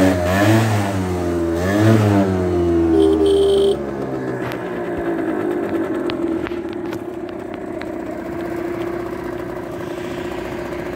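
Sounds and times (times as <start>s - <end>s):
scooter engine idling: 1.0s - 10.9s.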